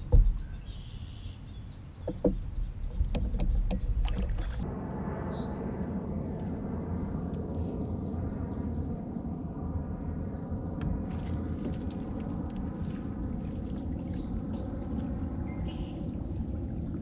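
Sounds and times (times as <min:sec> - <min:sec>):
low outdoor rumble on water: 0:00.0 - 0:17.0.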